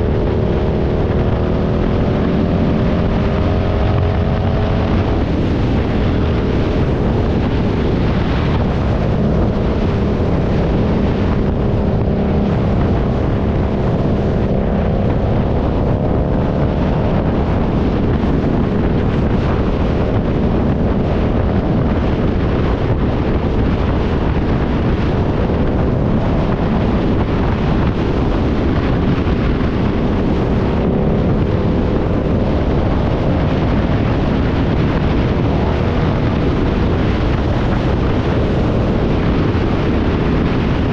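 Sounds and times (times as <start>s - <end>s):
motorcycle engine running: 0.0s - 40.9s
wind rumble on microphone: 0.0s - 40.9s.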